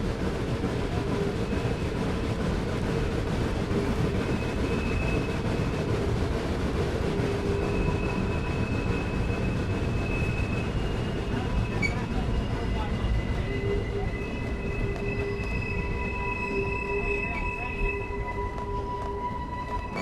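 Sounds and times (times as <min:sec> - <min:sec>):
train rumbling and clattering: 0:00.0 - 0:20.0.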